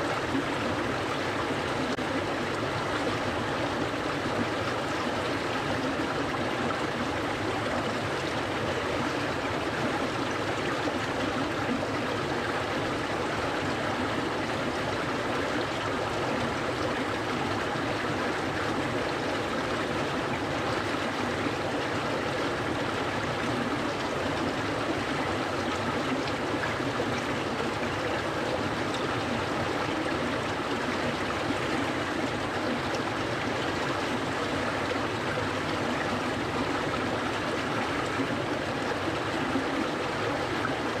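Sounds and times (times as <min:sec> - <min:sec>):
stream rushing and burbling: 0:00.0 - 0:41.0.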